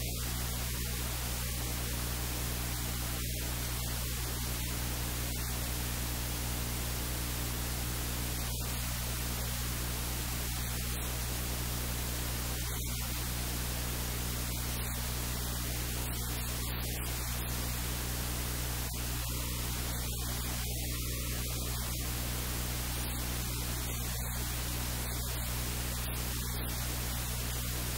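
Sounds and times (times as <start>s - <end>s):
low electrical hum: 0.0s - 27.9s
static hiss: 0.0s - 27.9s.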